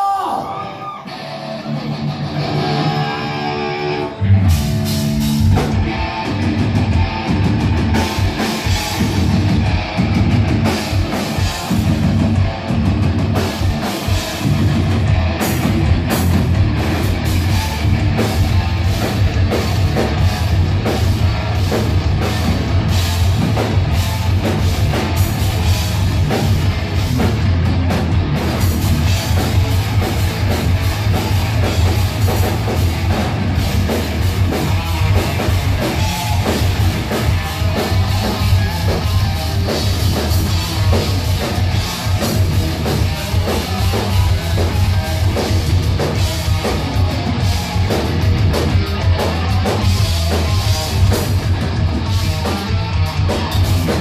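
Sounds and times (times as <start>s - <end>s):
metal band playing live: 0.0s - 54.0s
electric guitar riff: 0.3s - 54.0s.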